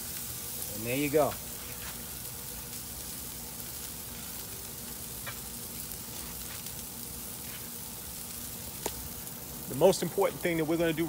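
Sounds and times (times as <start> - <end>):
chicken sizzling on a grill: 0.0 - 11.0.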